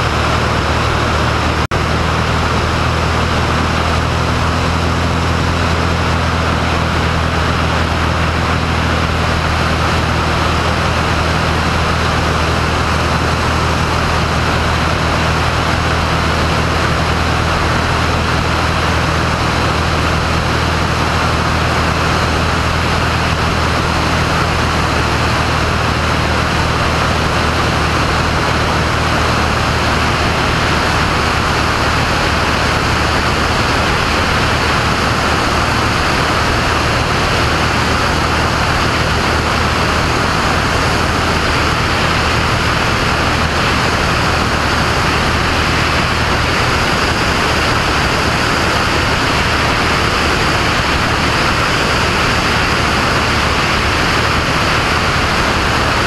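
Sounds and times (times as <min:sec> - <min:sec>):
propeller plane engine drone: 0:00.0 - 0:56.0
rush of airflow: 0:00.0 - 0:56.0.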